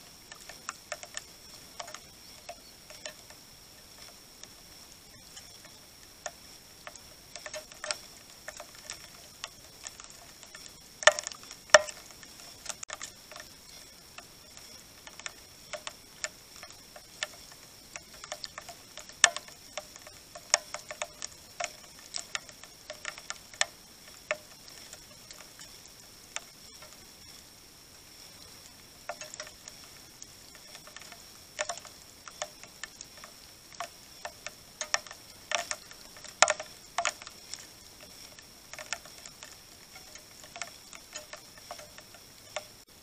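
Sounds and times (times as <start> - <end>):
birds pecking at seeds: 0.0 - 43.0.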